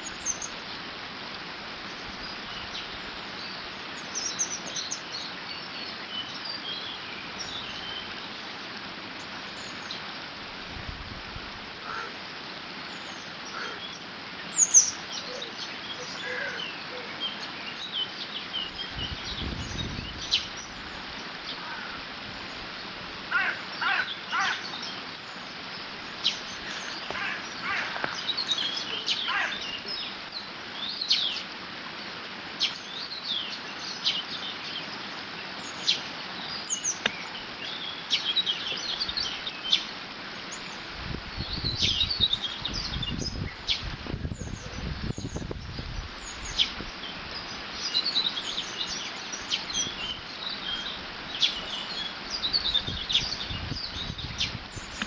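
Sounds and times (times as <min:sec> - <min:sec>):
songbirds chirping and trilling: 0:00.0 - 0:10.6, 0:11.6 - 0:55.0.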